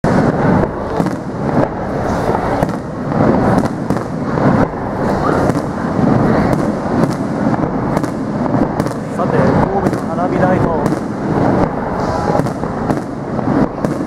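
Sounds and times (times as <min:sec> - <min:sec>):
firework shells bursting: 0:00.0 - 0:14.0
steady noisy background: 0:00.0 - 0:14.0.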